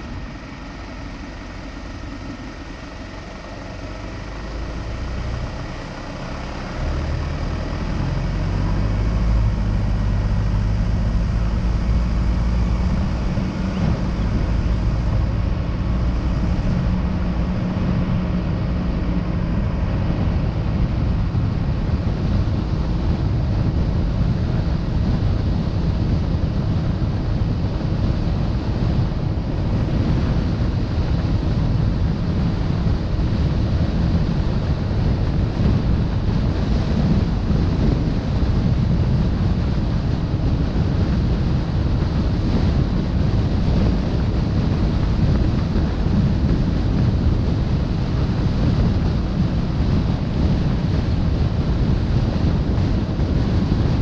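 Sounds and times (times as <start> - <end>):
road and vehicle rumble: 0.0 - 54.0
wind on microphone: 0.0 - 54.0.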